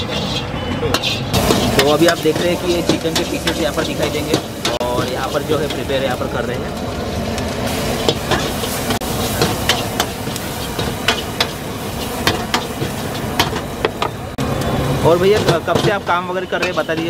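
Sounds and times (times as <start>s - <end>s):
sizzling and flame hiss: 1.3s - 17.0s.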